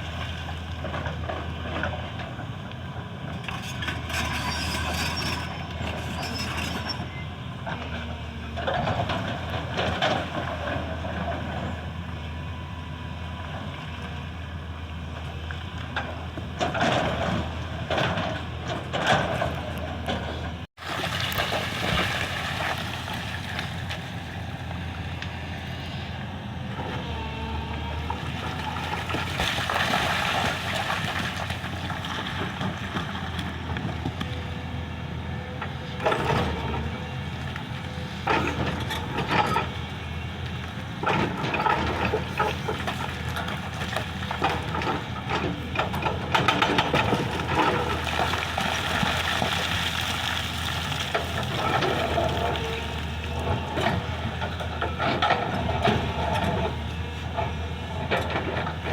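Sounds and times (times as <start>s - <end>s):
excavator diesel engine running: 0.1s - 58.9s.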